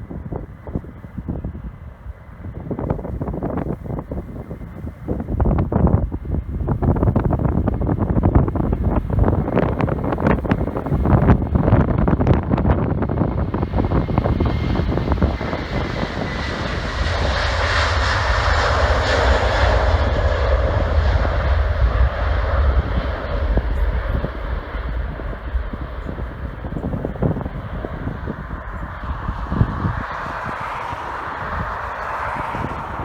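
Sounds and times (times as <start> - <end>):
jet engines roaring on takeoff: 0.0 - 33.0
wind buffeting microphone: 0.0 - 33.0.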